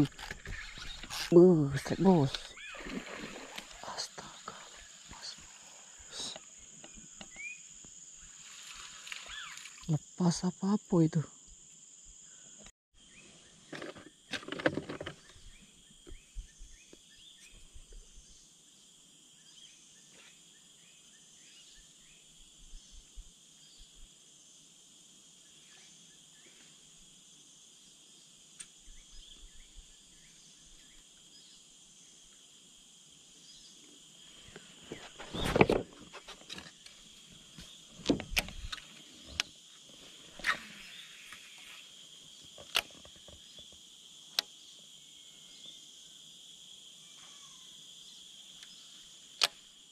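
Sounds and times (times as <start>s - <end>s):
insects droning: 0.0s - 49.9s.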